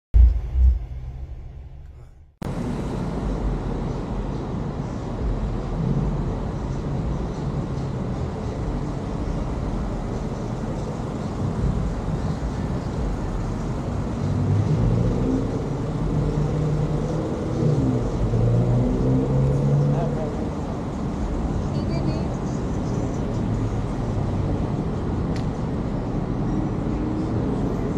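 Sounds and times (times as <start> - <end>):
car traffic rumble: 0.2 - 27.9.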